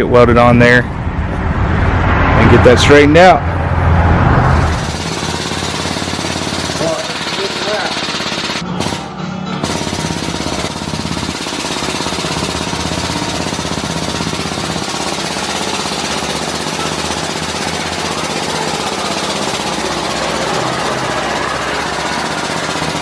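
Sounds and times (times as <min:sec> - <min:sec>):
pneumatic hammer running: 0:04.6 - 0:23.0.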